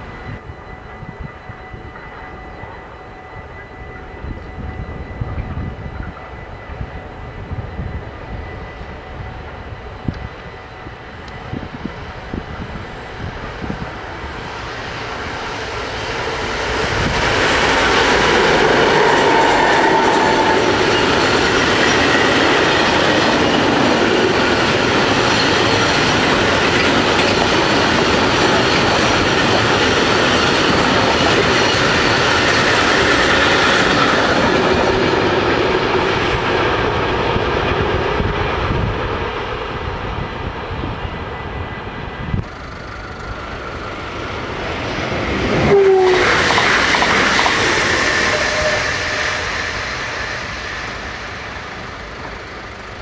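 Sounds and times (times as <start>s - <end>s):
freight train passing: 0.0s - 53.0s.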